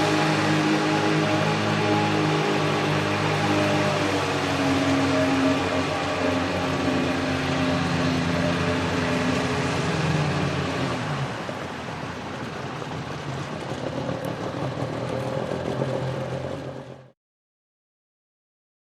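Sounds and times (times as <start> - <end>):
jet boat engine running: 0.0 - 17.2
wind: 0.0 - 17.2.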